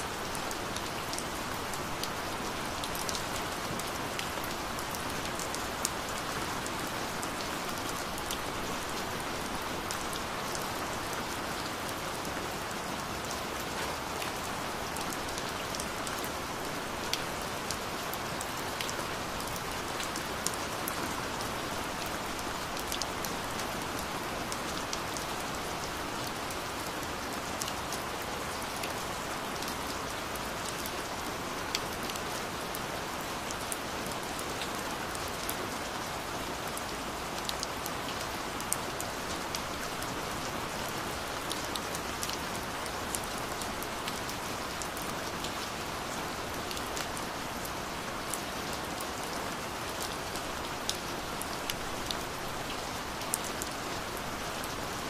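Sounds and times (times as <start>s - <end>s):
gentle rain hiss: 0.0s - 55.0s.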